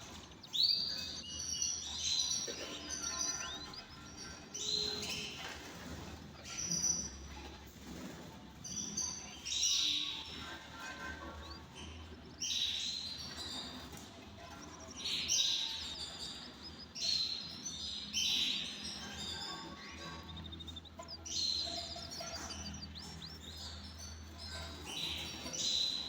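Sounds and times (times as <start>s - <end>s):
canaries trilling song: 0.0s - 26.0s.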